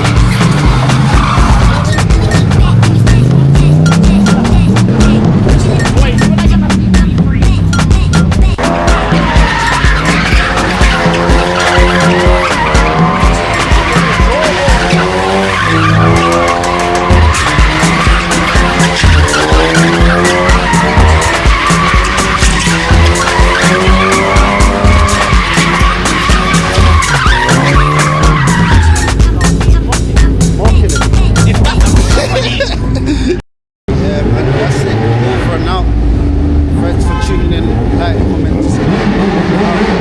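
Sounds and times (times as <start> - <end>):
car engine revving: 0.0 - 32.3, 33.9 - 40.0
tyres screeching: 0.0 - 32.6.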